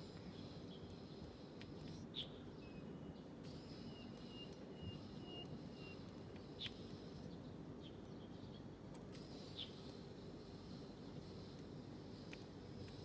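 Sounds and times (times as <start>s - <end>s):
faint low background noise: 0.0s - 13.0s
small birds chirping: 0.0s - 13.0s.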